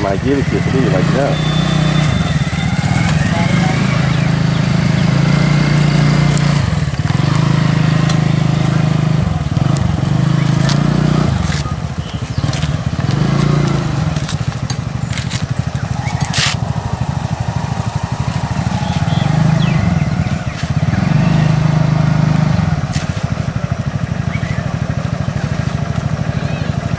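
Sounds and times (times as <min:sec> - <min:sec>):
vehicle engine idling: 0:00.0 - 0:26.9.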